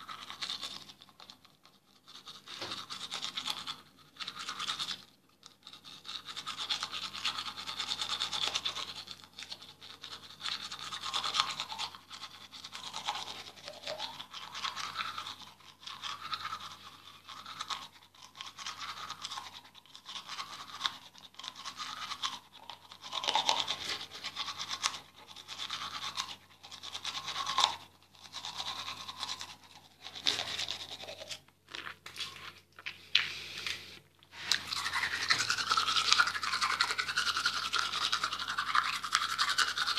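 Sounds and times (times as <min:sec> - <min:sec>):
toothbrush scrubbing teeth: 0:00.0 - 0:39.9.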